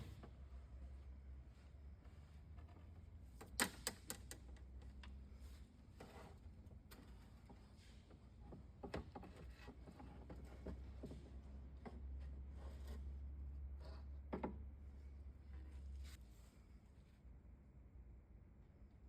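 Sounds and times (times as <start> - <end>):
faint clicks and scrapes of handwork: 1.5 - 17.2.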